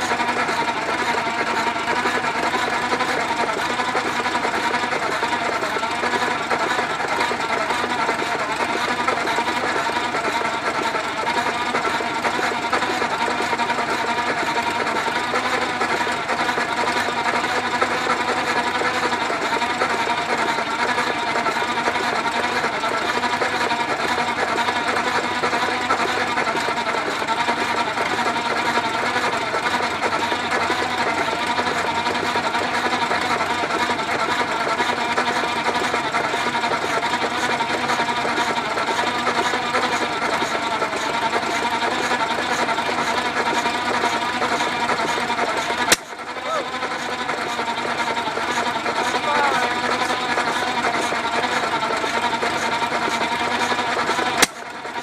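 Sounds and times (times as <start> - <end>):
engine belt rig clattering: 0.0 - 55.0
tractor running: 0.0 - 55.0.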